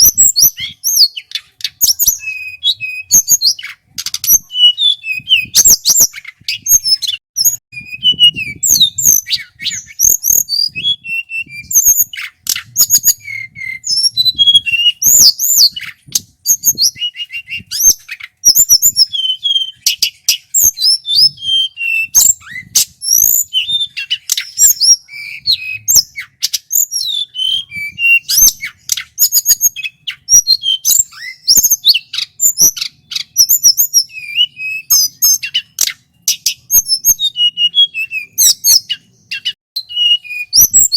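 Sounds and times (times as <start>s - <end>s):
bird singing whistles and trills: 0.0s - 40.9s.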